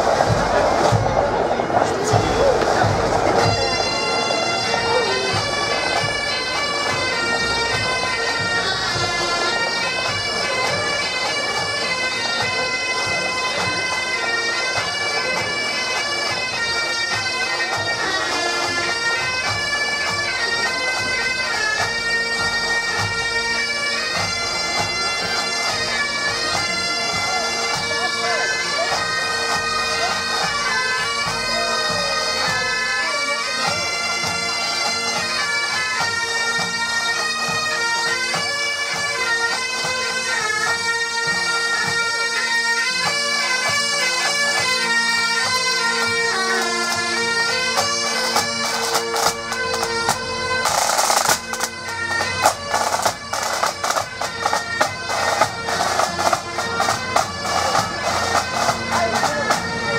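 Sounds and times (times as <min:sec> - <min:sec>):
bagpipes playing a march: 0:00.0 - 0:59.9.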